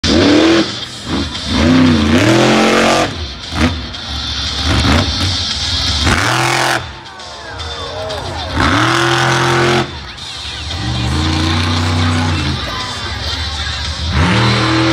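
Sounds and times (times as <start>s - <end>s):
monster truck engine revving: 0.0s - 14.9s.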